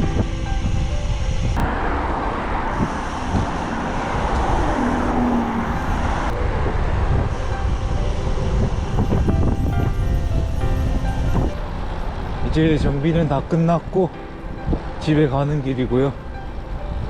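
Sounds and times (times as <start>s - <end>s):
bicycle tyre and road noise: 0.0s - 17.0s
wind rushing over microphone: 0.0s - 17.0s.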